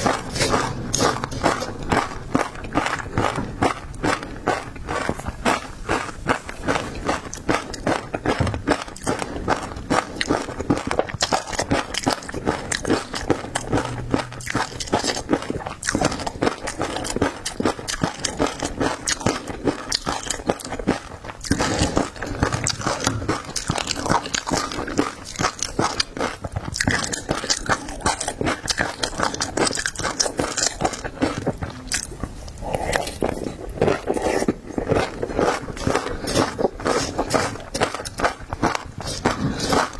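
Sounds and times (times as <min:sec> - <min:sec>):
crunchy biting and chewing: 0:00.0 - 0:39.9.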